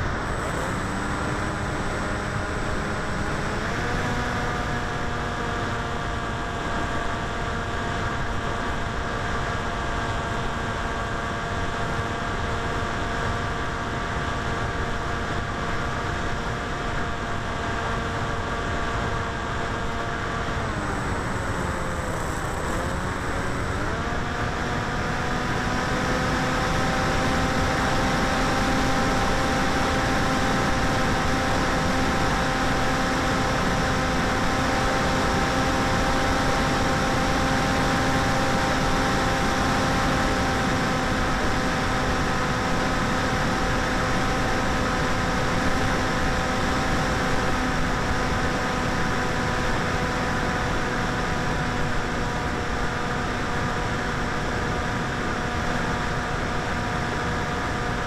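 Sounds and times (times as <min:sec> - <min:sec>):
electric motor and propeller whine: 0:00.0 - 0:58.0.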